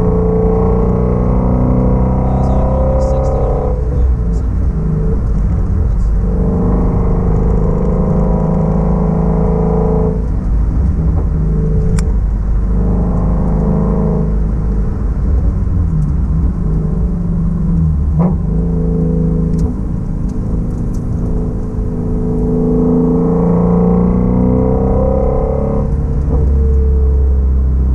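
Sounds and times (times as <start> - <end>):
car engine droning: 0.0 - 27.9.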